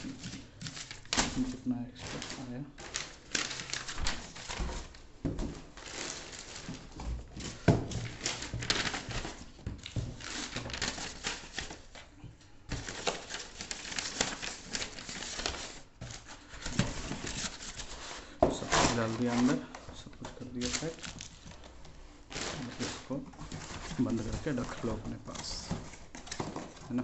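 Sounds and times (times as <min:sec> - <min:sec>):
paper and cardboard rustling: 0:00.0 - 0:27.0.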